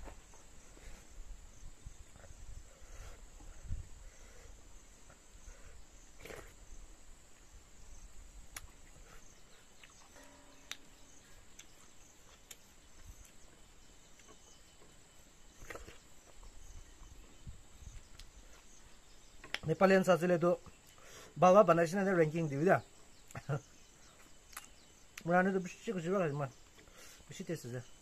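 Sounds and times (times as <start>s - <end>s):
insect chirring: 0.0s - 28.0s.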